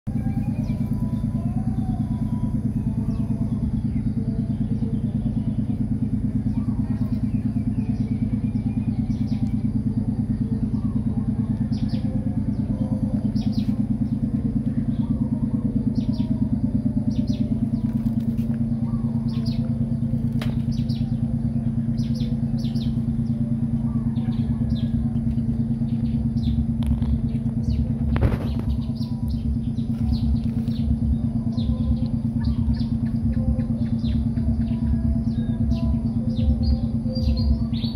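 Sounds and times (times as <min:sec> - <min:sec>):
small engine droning: 0:00.0 - 0:37.9
bird chirps: 0:00.1 - 0:37.9.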